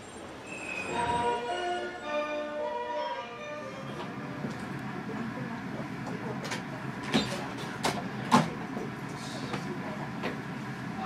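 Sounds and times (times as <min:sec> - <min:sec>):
train carriage hum: 0:00.0 - 0:11.0.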